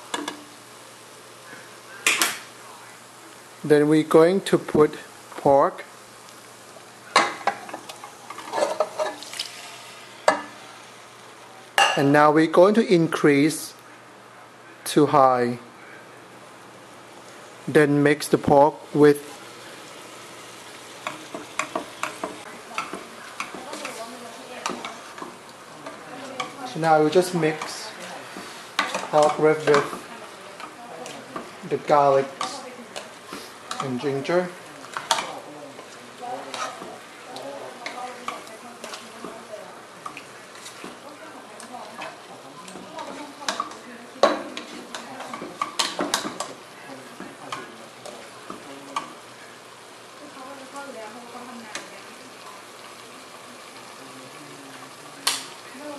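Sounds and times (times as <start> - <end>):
ribs sizzling in hot oil: 0.0 - 13.8, 16.5 - 55.9.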